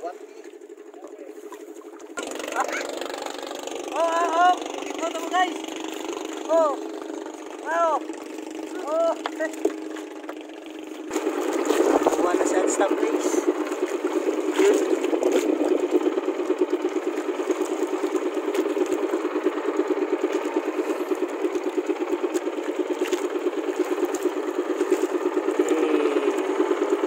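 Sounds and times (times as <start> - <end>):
small boat engine puttering: 0.0 - 27.0.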